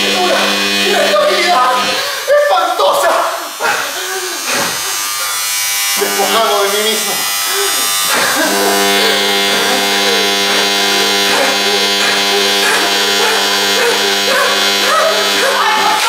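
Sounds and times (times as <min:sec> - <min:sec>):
steady droning tone: 0:00.0 - 0:02.0, 0:03.4 - 0:16.0
man wailing: 0:00.0 - 0:05.0, 0:07.2 - 0:16.0.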